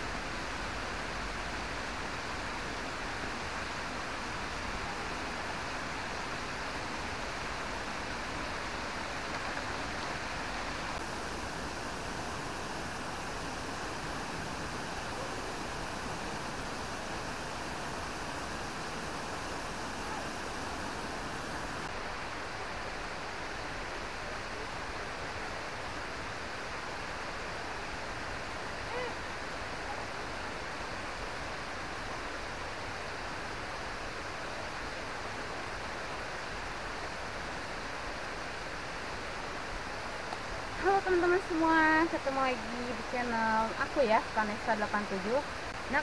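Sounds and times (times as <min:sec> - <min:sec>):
rushing river and waterfall: 0:00.0 - 0:46.0.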